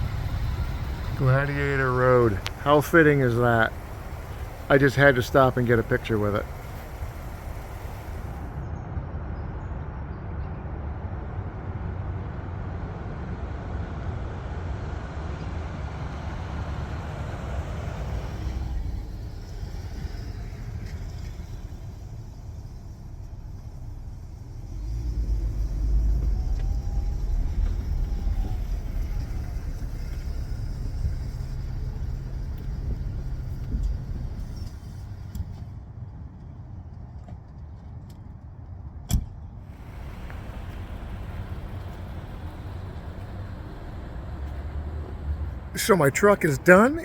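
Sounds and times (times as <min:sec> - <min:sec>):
vehicle road and engine rumble: 0:00.0 - 0:10.0, 0:10.6 - 0:47.0.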